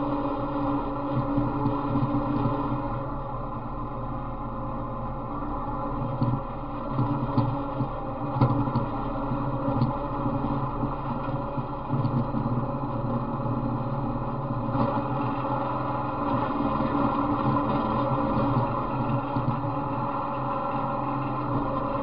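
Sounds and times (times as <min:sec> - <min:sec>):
riding mower engine running: 0:00.0 - 0:22.0.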